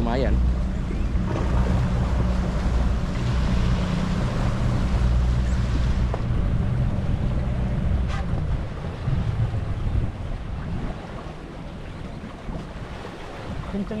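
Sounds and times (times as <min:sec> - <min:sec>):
boat engine rumble: 0:00.0 - 0:14.0
wind buffeting microphone: 0:00.0 - 0:14.0.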